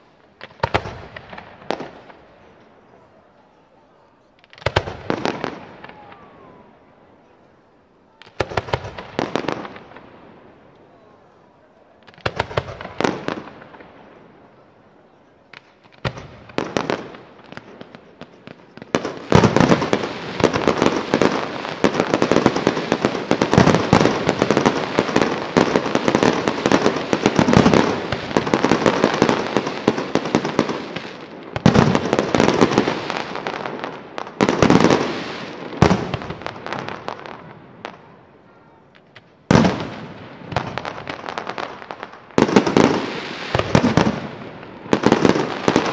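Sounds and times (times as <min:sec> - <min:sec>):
fireworks bangs: 0:00.0 - 0:07.5, 0:08.1 - 0:45.9.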